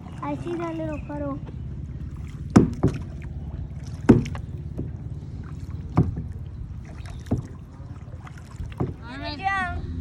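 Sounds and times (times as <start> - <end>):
kayak paddle strokes splashing: 0.0 - 9.7
low rumble: 0.0 - 10.0.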